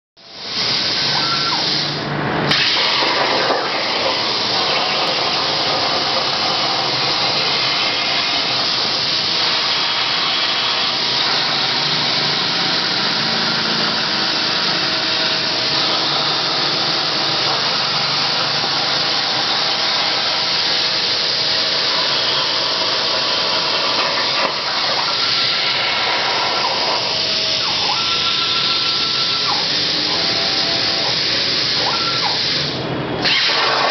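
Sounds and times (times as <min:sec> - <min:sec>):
plasma cutter hissing: 0:00.2 - 0:33.9.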